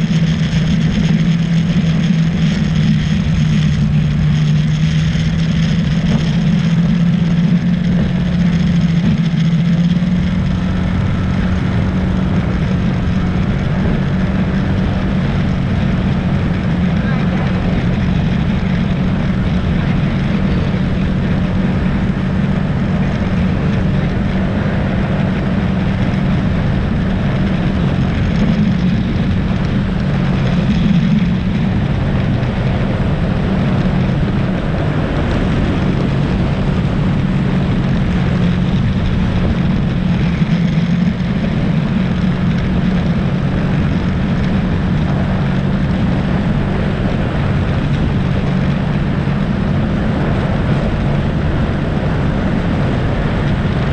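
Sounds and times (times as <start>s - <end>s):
engine droning: 0.0s - 53.9s
rushing noise: 0.0s - 53.9s.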